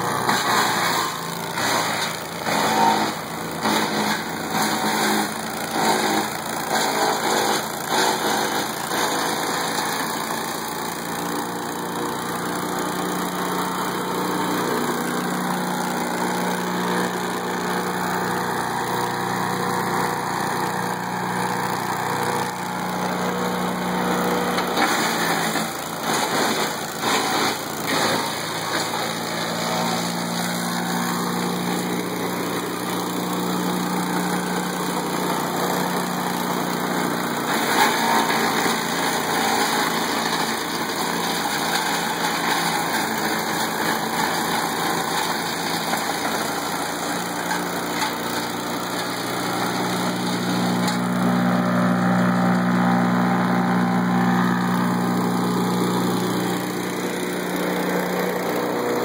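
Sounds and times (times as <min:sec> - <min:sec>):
wood chipper engine hum: 0:00.0 - 0:59.0.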